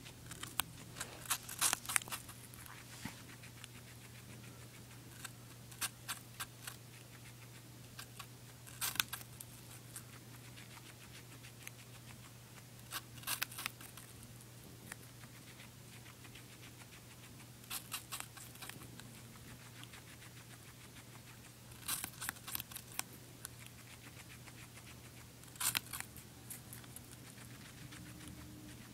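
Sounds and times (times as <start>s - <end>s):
faint steady hum: 0.0s - 28.9s
guinea pig crunching apple: 0.0s - 28.9s.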